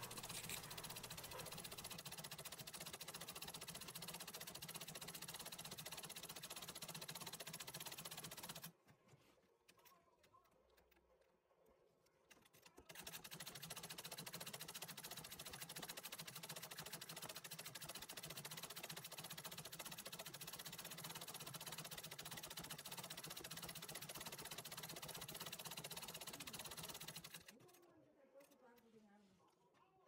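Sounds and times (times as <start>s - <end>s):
sewing machine needle clatter: 0.0s - 8.8s, 12.2s - 28.8s.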